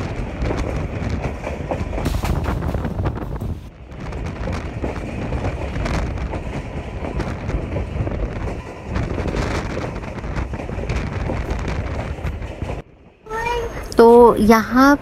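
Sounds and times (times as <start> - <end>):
wind rushing over microphone: 0.0 - 12.8
rail clicks: 0.0 - 15.0
train running rumble: 0.0 - 15.0.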